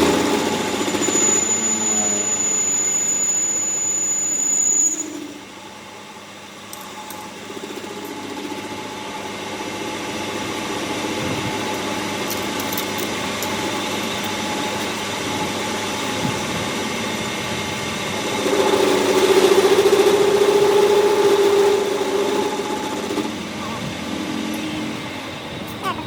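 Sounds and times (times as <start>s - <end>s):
pulsing buzz: 0.0s - 26.0s
machine humming: 5.0s - 26.0s.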